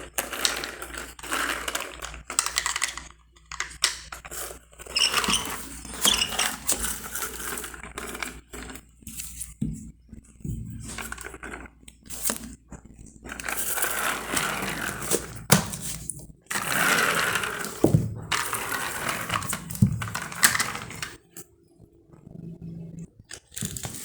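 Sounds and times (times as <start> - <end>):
plastic toys rustling and clattering: 0.0 - 21.4, 23.3 - 24.0.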